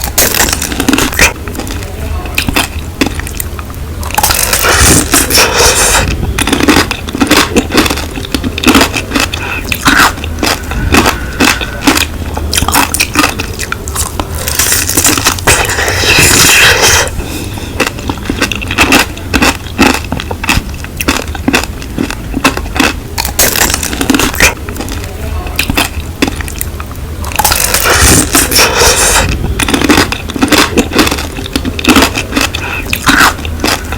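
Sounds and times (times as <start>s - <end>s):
squishy mouth noises: 0.0s - 33.9s
strawberries chewed with wet crunches: 0.0s - 33.9s.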